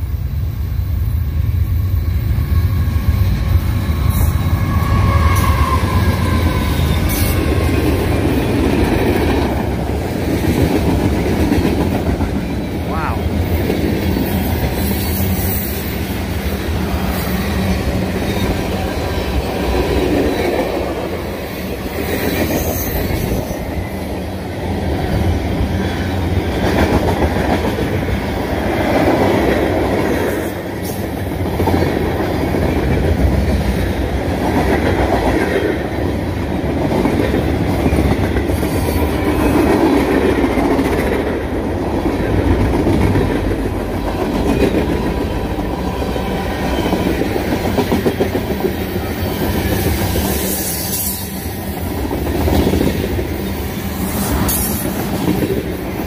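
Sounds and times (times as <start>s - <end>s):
train wheels rumbling on rails: 0.0s - 56.0s
clickety-clack over rail joints: 3.2s - 21.2s, 25.0s - 53.4s, 54.0s - 56.0s.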